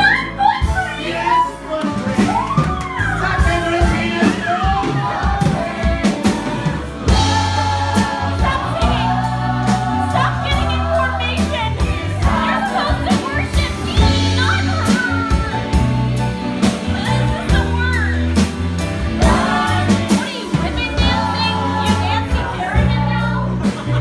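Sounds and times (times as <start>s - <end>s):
band with bass and drums: 0.0s - 24.0s
group of voices singing: 3.0s - 17.8s, 18.8s - 24.0s.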